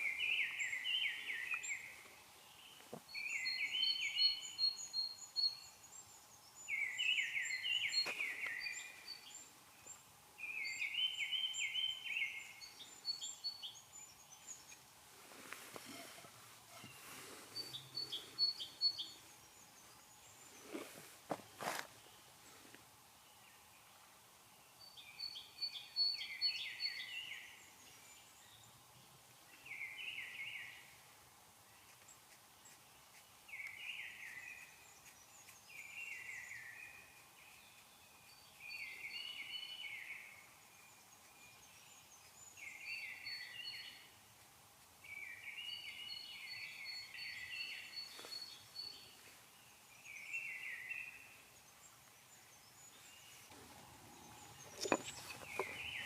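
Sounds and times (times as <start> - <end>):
faint steady hiss: 0.0 - 56.0
songbird singing: 0.0 - 56.0.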